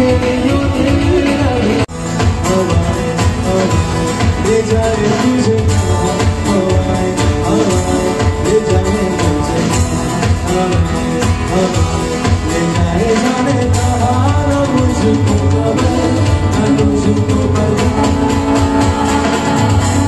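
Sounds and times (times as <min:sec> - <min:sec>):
instrumental accompaniment with beat: 0:00.0 - 0:20.0
man singing into a microphone: 0:00.0 - 0:20.0.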